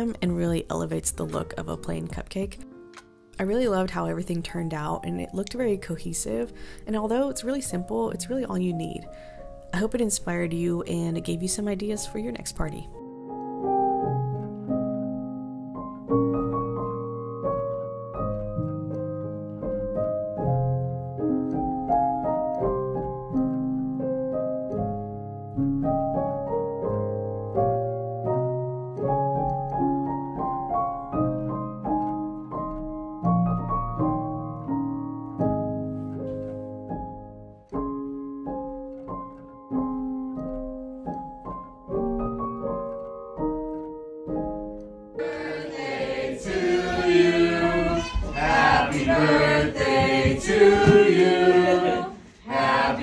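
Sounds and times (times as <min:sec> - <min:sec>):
gentle piano tune: 0:00.0 - 0:53.0.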